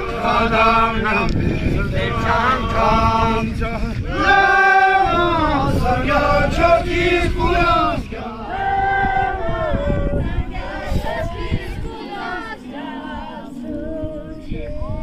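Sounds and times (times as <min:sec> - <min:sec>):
group chanting a prayer: 0:00.0 - 0:15.0.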